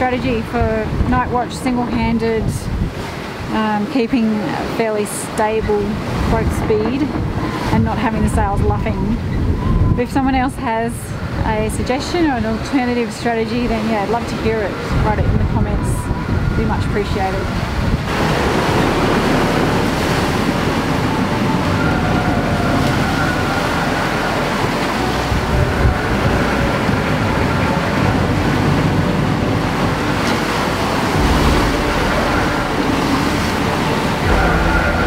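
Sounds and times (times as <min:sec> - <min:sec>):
wind on microphone: 0:00.0 - 0:04.6, 0:05.5 - 0:35.0
waves rushing against hull: 0:00.0 - 0:35.0.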